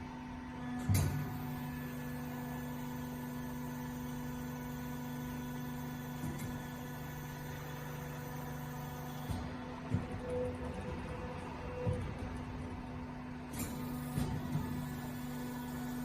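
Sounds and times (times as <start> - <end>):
electrical machine hum: 0.0 - 16.0.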